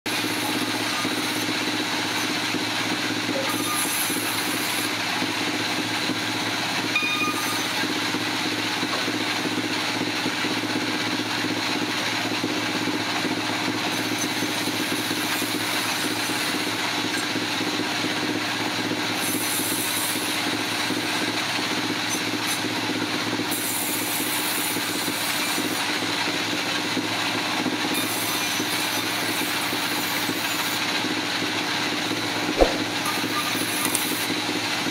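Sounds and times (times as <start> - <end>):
sawmill machinery hum: 0.1 - 34.9.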